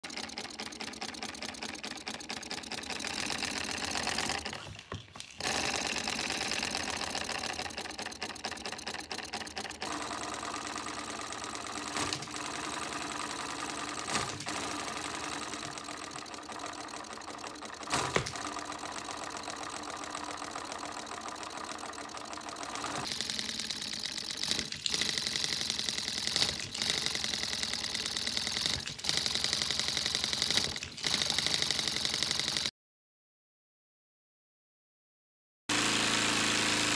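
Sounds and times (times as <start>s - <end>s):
rattle of pneumatic cylinders: 0.0s - 32.7s.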